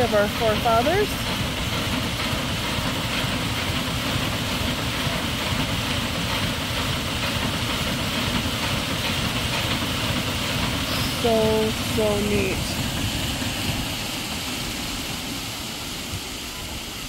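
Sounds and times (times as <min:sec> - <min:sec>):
water rushing with low rumble: 0:00.0 - 0:17.0.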